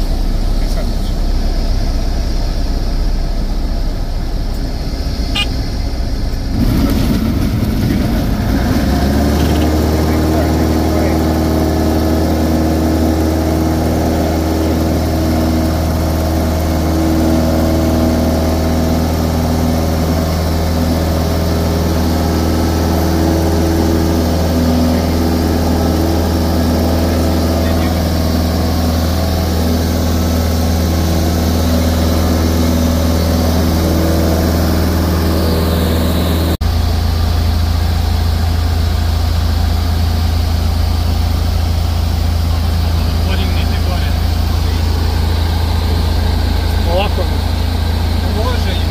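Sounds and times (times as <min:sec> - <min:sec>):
propeller plane engine droning: 0:00.0 - 0:48.9.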